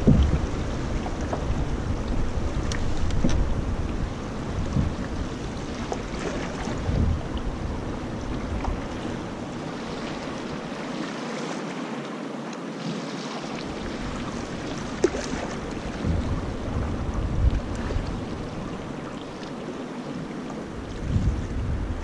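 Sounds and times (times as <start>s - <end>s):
wind gusting on microphone: 0.0s - 10.9s, 13.7s - 19.4s, 20.1s - 22.0s
river current rushing: 0.0s - 22.0s.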